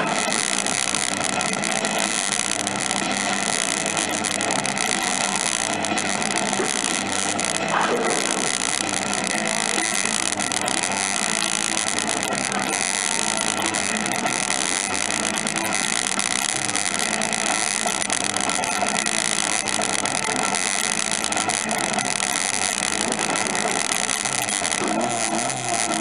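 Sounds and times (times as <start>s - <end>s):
arcade machines din: 0.0s - 26.0s.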